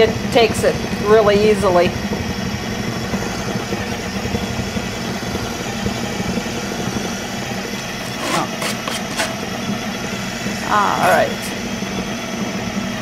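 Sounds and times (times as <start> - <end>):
food processor motor running: 0.0 - 13.0.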